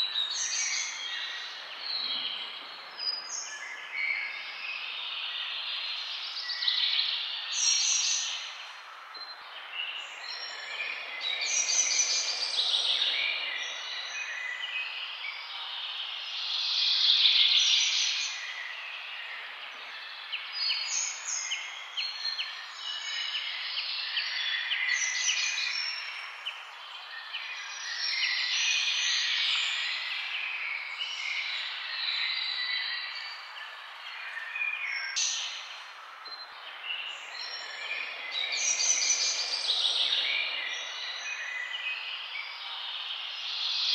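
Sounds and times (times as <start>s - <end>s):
songbirds singing: 0.0s - 43.9s.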